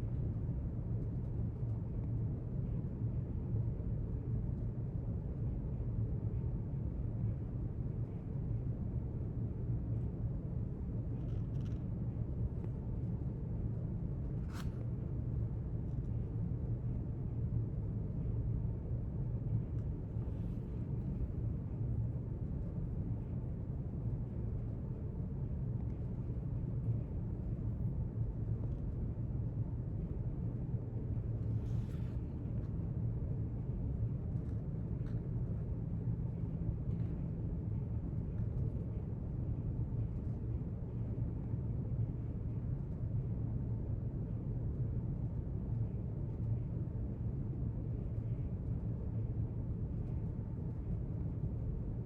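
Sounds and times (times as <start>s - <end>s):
low room rumble: 0.0s - 52.0s.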